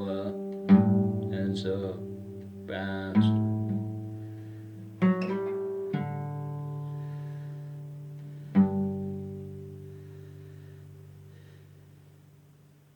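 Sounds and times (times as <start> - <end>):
plucked string chords: 0.0 - 12.7.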